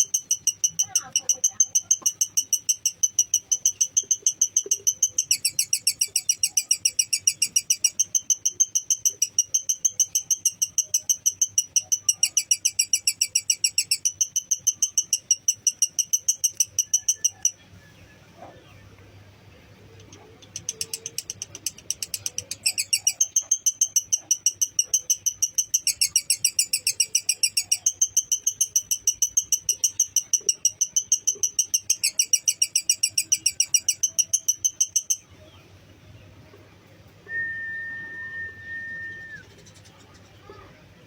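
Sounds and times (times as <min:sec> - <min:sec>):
lovebird chatter trill: 0:00.0 - 0:17.7, 0:19.8 - 0:35.6.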